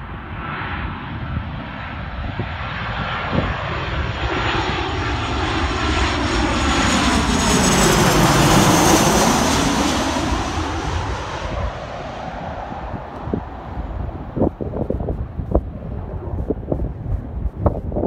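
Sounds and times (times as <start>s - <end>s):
jet engine passing overhead: 0.0s - 18.0s.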